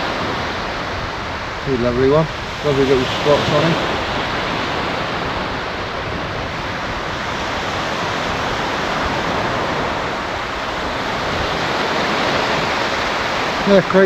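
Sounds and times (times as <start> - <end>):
waves breaking on shore: 0.0 - 14.0.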